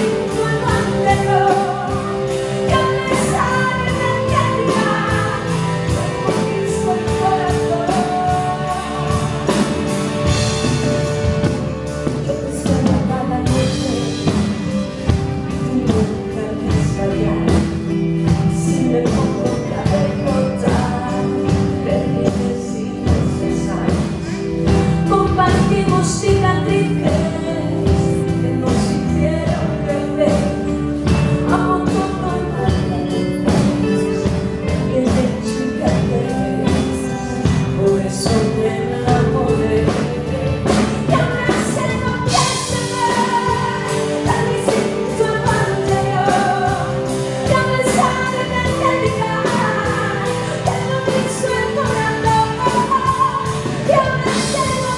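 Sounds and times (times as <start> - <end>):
drums: 0.0 - 54.9
pop band playing: 0.0 - 54.9
woman singing: 0.0 - 54.9.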